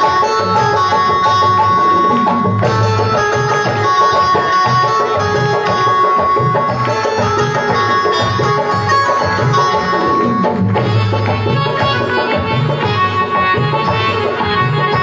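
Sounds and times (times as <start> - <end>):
electronic keyboard melody: 0.0 - 15.0
hand drum rhythm: 0.0 - 15.0.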